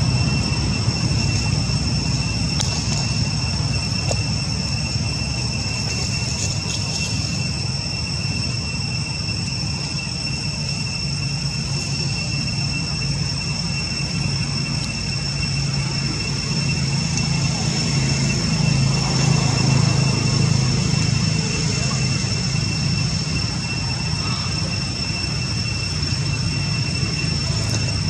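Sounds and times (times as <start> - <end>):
insect chorus: 0.0 - 28.0
low steady rumble: 0.0 - 28.0.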